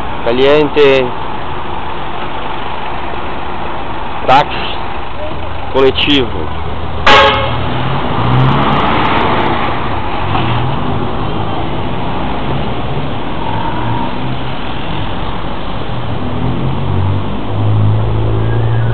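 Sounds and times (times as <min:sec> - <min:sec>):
car engines running: 0:00.0 - 0:18.9
road noise rushing: 0:00.0 - 0:18.9.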